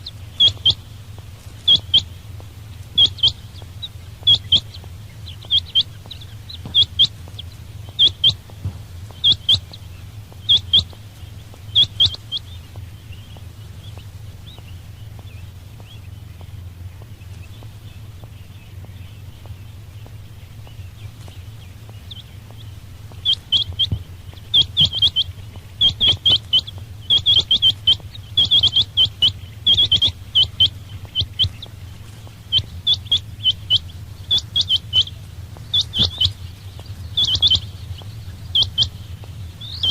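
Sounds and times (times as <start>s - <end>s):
quail calling: 0.0s - 39.9s
steady low hum: 0.0s - 39.9s.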